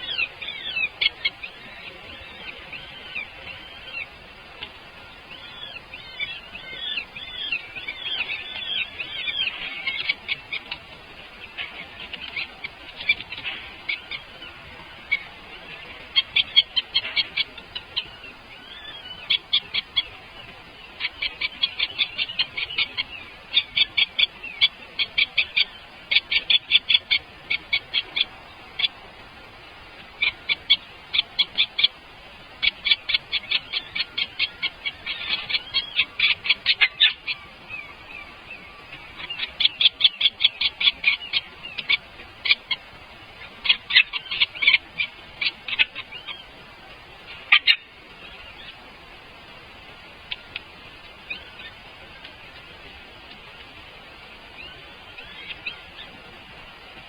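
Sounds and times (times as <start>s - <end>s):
baby birds chirping: 0.0s - 29.2s, 29.8s - 48.7s.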